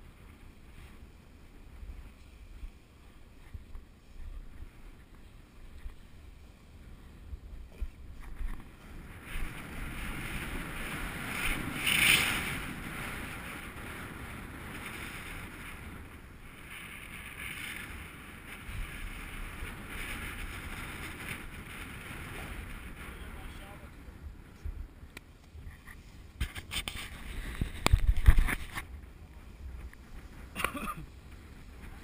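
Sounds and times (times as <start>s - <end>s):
snowboard scraping snow: 0.0s - 23.9s, 25.6s - 32.0s
wind buffeting microphone: 0.0s - 32.0s.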